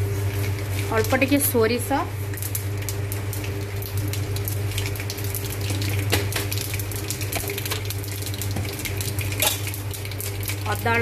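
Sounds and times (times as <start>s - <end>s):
seeds crackling in hot oil: 0.0s - 11.0s.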